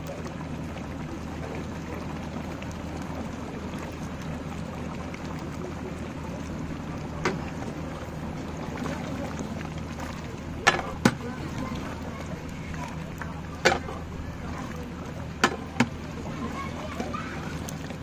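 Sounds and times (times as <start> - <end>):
curry bubbling in a pot: 0.0 - 18.0.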